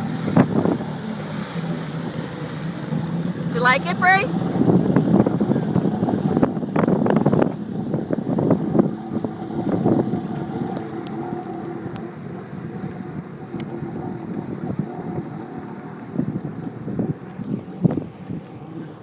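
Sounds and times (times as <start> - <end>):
jet ski engine drone: 0.0 - 19.0
wind gusting on microphone: 0.0 - 19.0.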